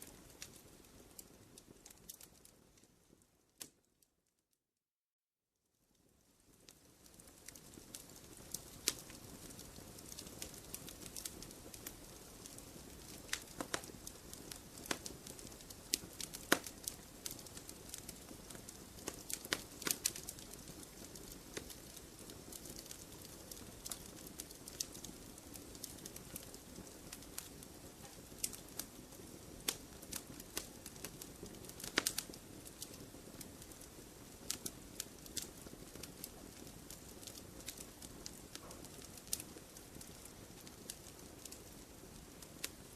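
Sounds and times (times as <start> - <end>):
fireplace fire crackling: 0.0 - 4.1, 5.7 - 42.9.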